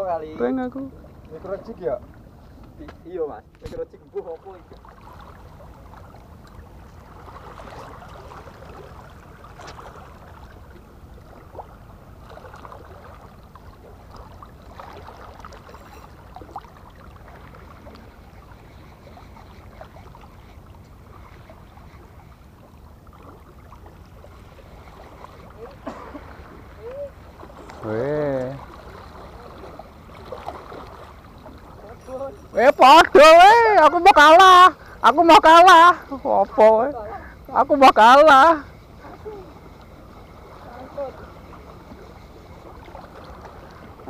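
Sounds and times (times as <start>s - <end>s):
light clicks and splashes: 0.0s - 33.2s, 39.0s - 44.0s
small waves lapping on rocks: 0.0s - 44.0s.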